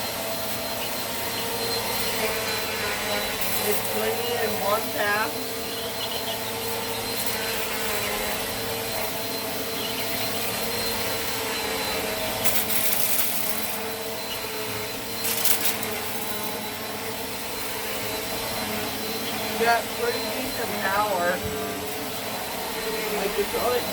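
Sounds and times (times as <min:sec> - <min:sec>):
vacuum cleaner running on carpet: 0:00.0 - 0:23.9
vacuum hissing: 0:00.0 - 0:23.9.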